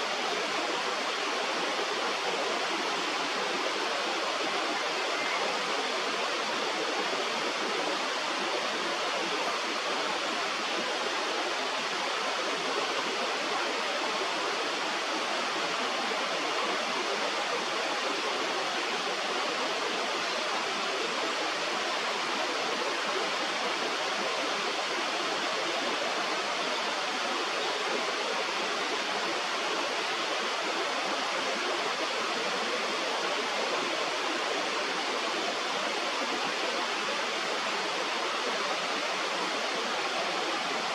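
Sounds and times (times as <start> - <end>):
flowing stream water: 0.0 - 40.9.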